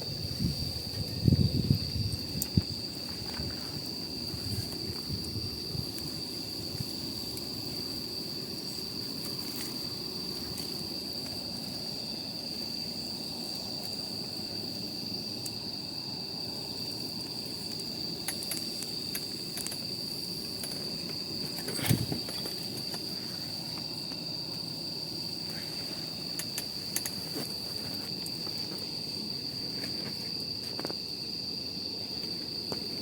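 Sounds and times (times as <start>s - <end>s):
campfire crackling: 0.0s - 33.0s
insect high-pitched trill: 0.0s - 33.0s
campfire pop: 0.4s - 15.7s, 16.8s - 31.0s.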